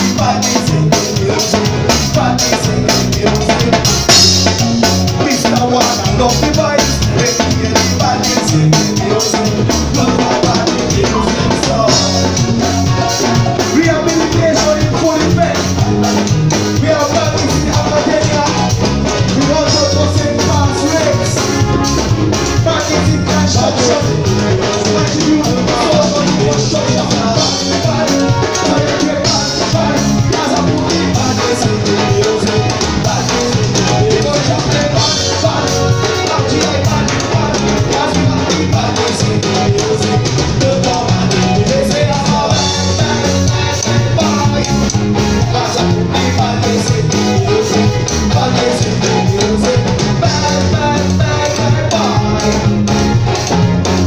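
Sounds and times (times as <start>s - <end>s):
drum kit with cymbals: 0.0s - 54.0s
man singing into a microphone: 0.0s - 54.0s.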